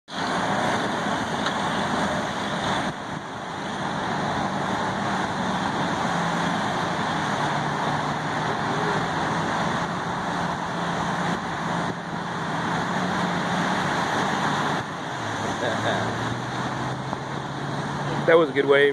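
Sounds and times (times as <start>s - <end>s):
diesel engine drone: 0.1s - 18.9s.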